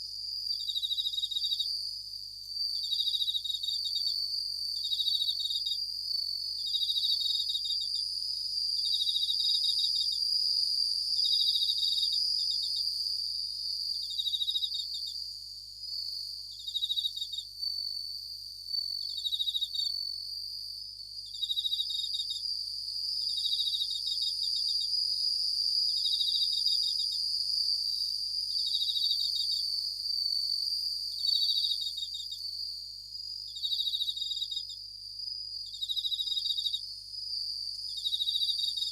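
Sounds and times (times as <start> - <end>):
high-pitched insect hum: 0.0 - 38.9.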